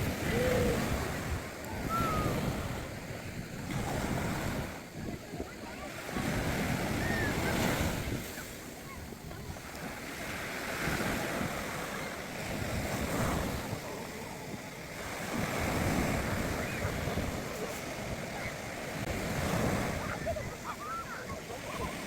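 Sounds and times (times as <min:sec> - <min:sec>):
sea surf breaking on beach: 0:00.0 - 0:22.0
wind buffeting microphone: 0:00.0 - 0:22.0.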